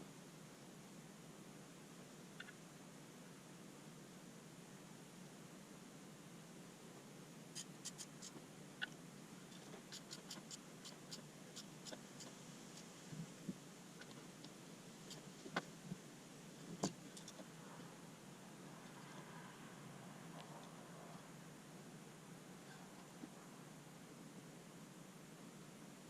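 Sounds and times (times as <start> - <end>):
quiet hiss: 0.0 - 26.0.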